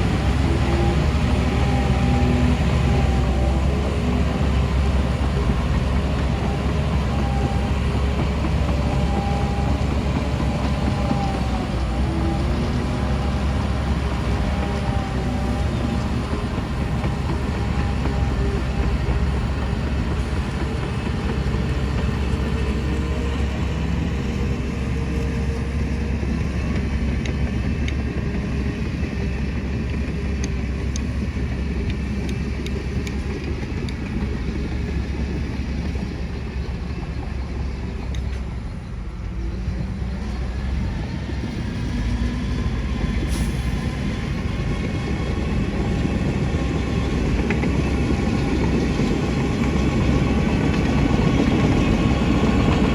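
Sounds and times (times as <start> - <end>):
diesel machinery engine hum: 0.0 - 52.9.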